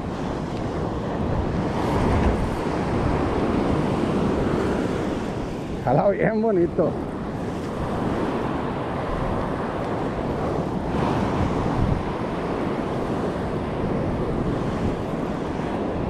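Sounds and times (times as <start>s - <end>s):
surf washing up beach: 0.0s - 16.0s
wind buffeting microphone: 0.0s - 16.0s.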